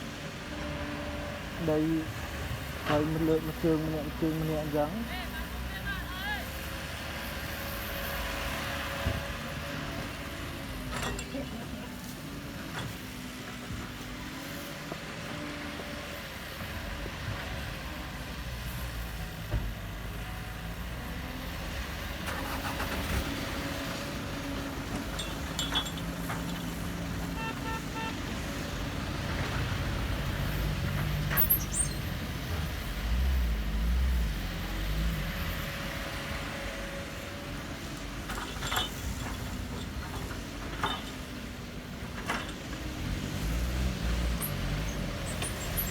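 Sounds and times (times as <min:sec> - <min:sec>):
engine running: 0:00.2 - 0:45.9.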